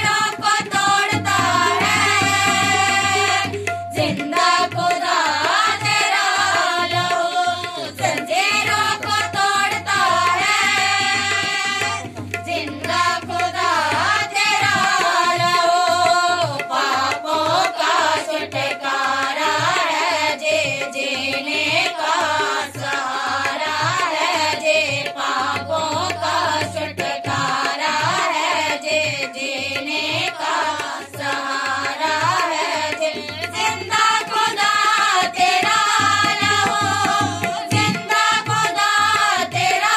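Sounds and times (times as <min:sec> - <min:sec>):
hand drum rhythm: 0:00.0 - 0:39.9
women singing together: 0:00.0 - 0:39.9.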